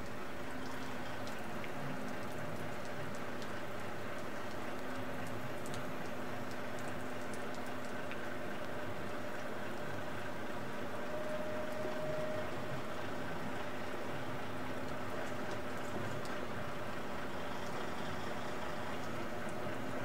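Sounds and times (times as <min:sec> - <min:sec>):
rain patter: 0:00.0 - 0:20.0.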